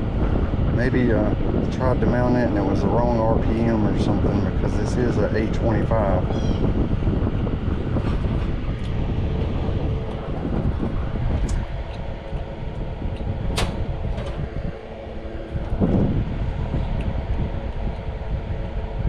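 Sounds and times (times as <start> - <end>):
mechanical rumble with hum: 0.0 - 19.0.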